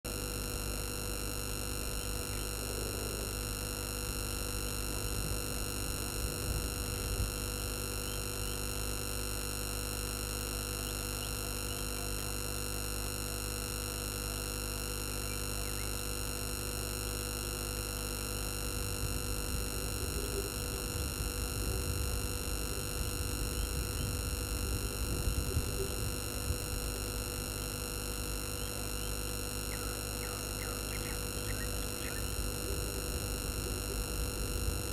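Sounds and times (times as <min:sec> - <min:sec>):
electrical hum and whine: 0:00.0 - 0:34.9.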